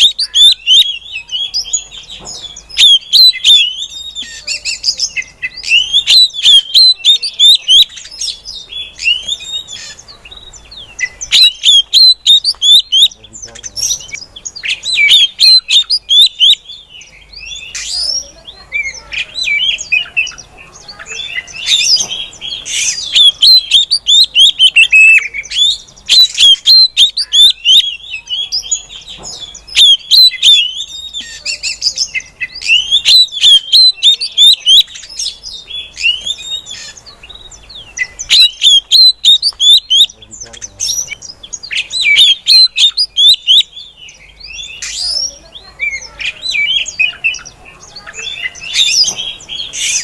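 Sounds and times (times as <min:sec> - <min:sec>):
bird high chirps and whistles: 0:00.0 - 0:50.0.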